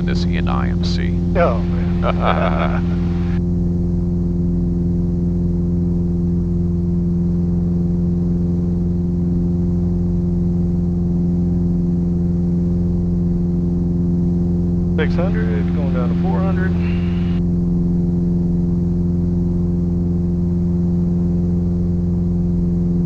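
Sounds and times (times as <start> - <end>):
airplane engine and propeller drone: 0.0 - 23.0.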